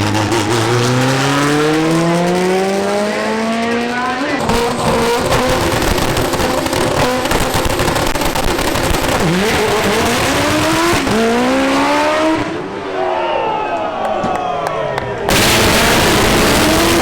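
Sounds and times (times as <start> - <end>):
car engine at full throttle: 0.0 - 13.4, 15.2 - 17.0.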